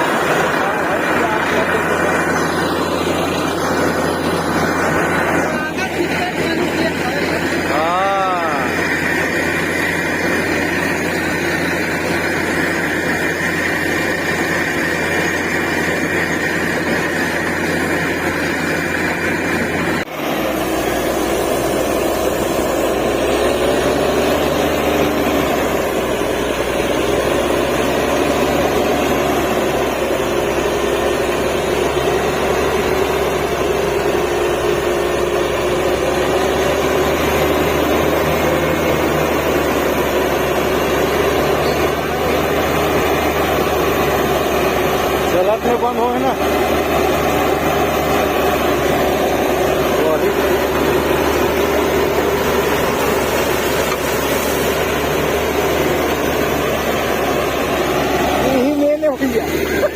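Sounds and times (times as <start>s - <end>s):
drilling rig drone: 0.0s - 59.9s.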